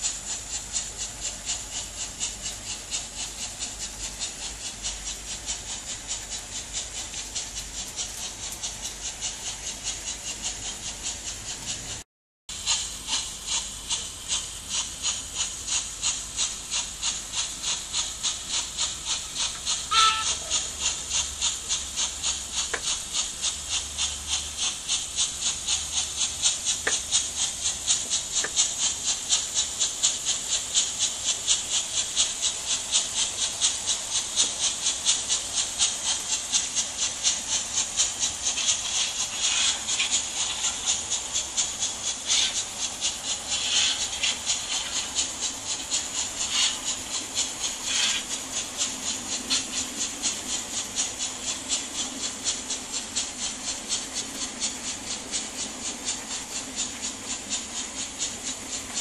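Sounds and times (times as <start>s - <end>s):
model steam locomotive chuffing: 0.0s - 59.0s
model wheels rattling on track: 0.0s - 59.0s.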